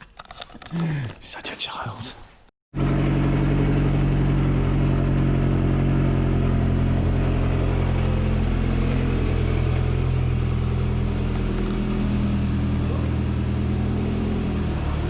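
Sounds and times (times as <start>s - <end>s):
car engine idling: 2.8s - 15.0s.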